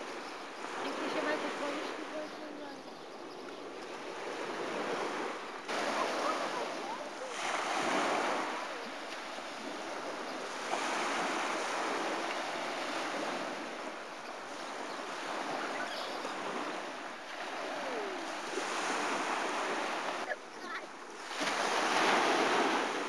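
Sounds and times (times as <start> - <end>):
waves washing onto pebble beach: 3.8 - 23.0.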